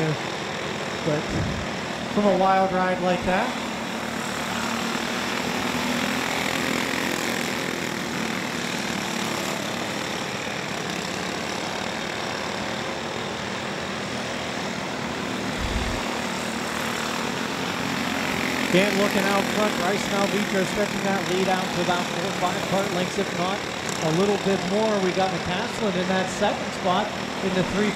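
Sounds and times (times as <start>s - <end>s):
go-kart engines buzzing: 0.0s - 27.9s.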